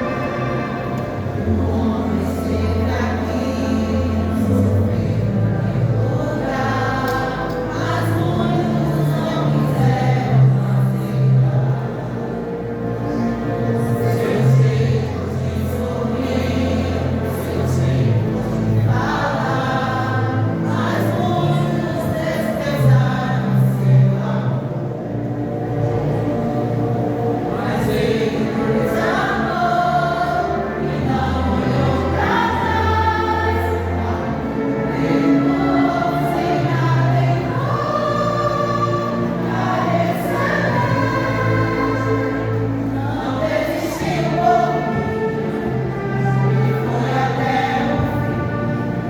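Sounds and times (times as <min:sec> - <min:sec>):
gospel group singing: 0:00.0 - 0:24.9, 0:25.8 - 0:49.0
low steady accompaniment: 0:00.0 - 0:49.0.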